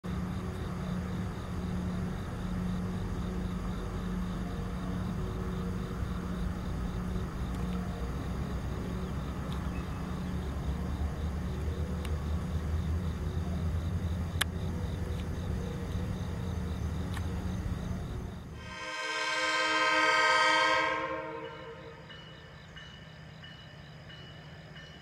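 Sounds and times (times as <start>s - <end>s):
diesel locomotive engine rumbling: 0.0s - 25.0s
faint insects chirping: 0.0s - 25.0s.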